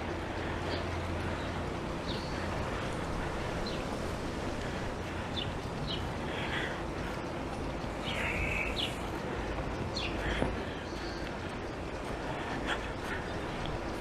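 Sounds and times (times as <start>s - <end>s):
bird chirping: 0.0s - 14.0s
low hum: 0.0s - 14.0s.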